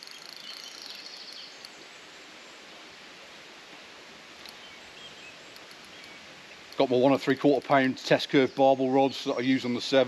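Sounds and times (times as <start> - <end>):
flowing river hiss: 0.0 - 10.0.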